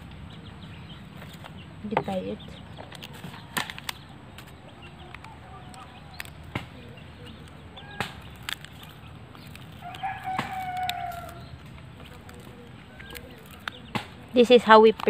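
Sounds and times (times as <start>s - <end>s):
leaf clicks and crackles: 0.0s - 15.0s.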